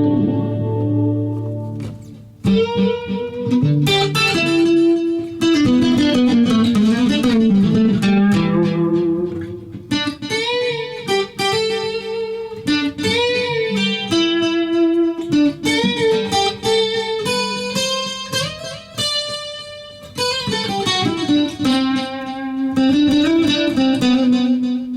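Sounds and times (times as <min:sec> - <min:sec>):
acoustic guitar plucked notes: 0:00.0 - 0:24.9.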